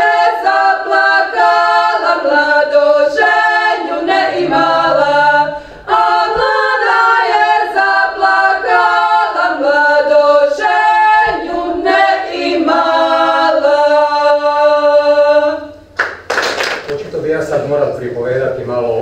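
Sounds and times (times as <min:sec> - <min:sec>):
women singing in harmony: 0:00.0 - 0:15.9.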